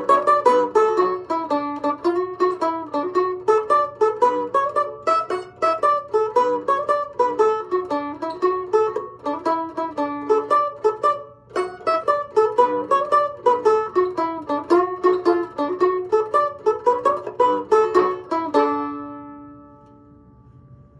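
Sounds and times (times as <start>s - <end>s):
mandolin picking a tune: 0.0s - 20.2s.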